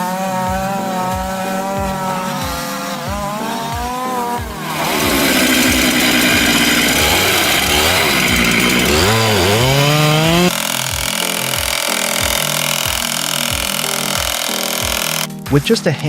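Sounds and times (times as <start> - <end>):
chainsaw engine revving: 0.0 - 15.3
background music with steady beat: 0.0 - 16.0.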